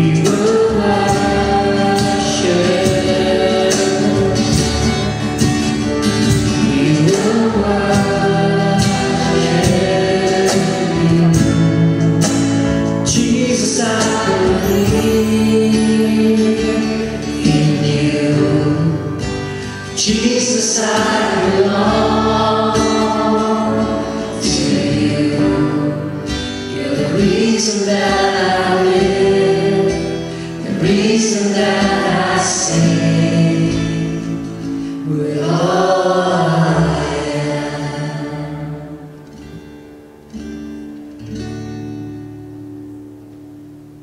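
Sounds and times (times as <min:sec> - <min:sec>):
voices singing together: 0:00.0 - 0:39.2
strummed acoustic guitar: 0:00.0 - 0:44.0.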